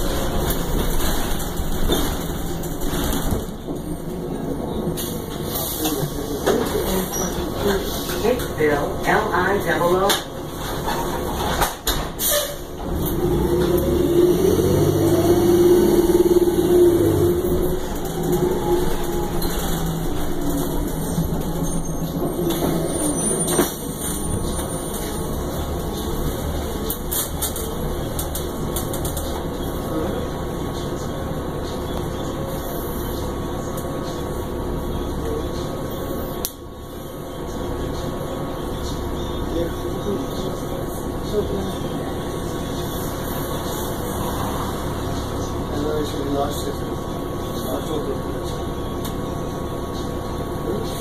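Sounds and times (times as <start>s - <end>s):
bus engine whining as it accelerates: 0.0s - 51.0s.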